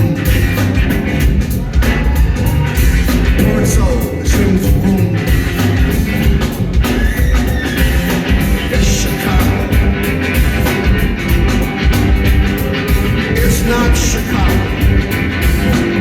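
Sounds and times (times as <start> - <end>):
drum beat: 0.0 - 16.0
heavy bass: 0.0 - 16.0
live rock band playing: 0.0 - 16.0.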